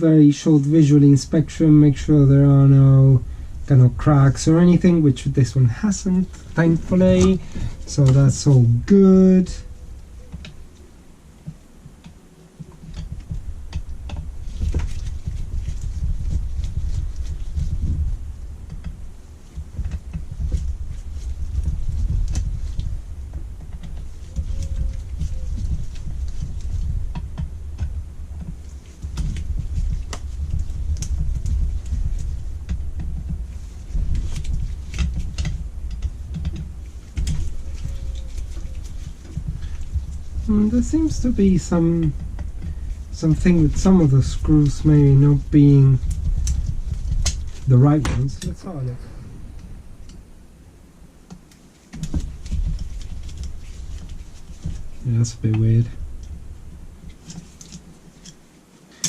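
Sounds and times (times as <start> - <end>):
low rumbling handling noise: 0.0 - 59.0.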